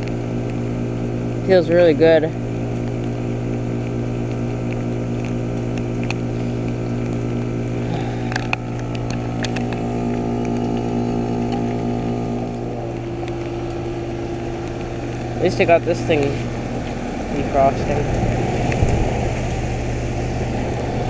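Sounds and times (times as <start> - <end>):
heat pump humming: 0.0 - 21.0.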